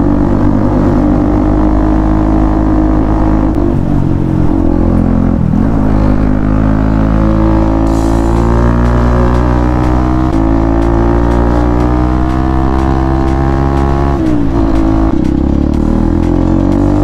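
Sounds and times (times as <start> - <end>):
motorcycle exhaust note: 0.0 - 17.0.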